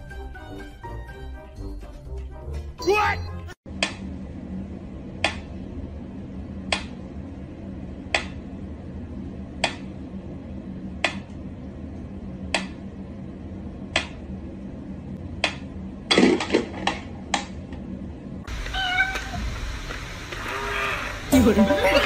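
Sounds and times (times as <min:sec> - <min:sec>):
faint steady hum: 0:03.7 - 0:22.0.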